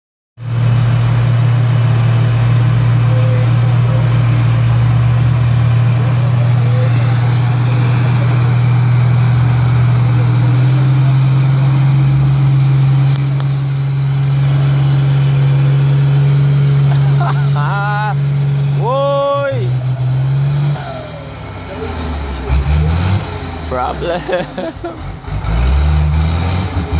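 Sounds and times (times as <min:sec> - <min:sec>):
vehicle engine droning: 0:00.4 - 0:26.9.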